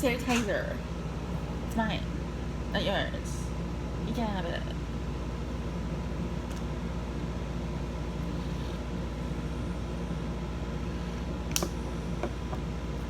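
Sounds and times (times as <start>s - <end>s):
fan unit humming: 0.0s - 13.0s.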